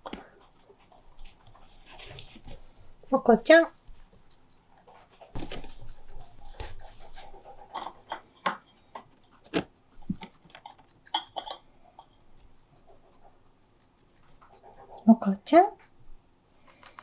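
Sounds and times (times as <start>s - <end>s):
guinea pig scuffling in enclosure: 0.0s - 16.0s.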